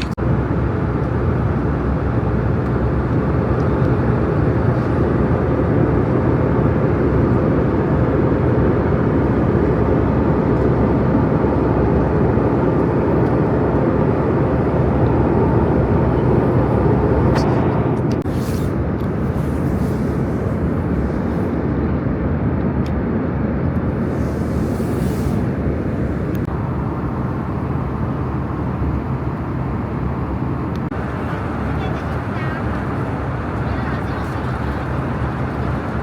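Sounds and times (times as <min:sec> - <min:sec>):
airliner cabin engine and airflow noise: 0:00.0 - 0:36.0.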